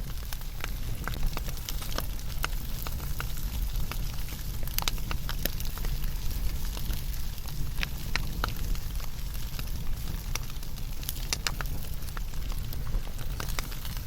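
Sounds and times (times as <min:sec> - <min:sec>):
fire crackling and popping: 0:00.0 - 0:14.0
fire flames rumbling and hissing: 0:00.0 - 0:14.0.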